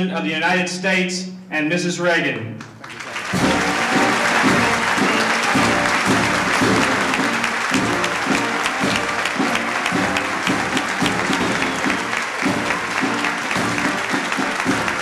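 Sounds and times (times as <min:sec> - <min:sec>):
crowd applauding: 0:02.7 - 0:15.0
live band playing: 0:02.9 - 0:15.0.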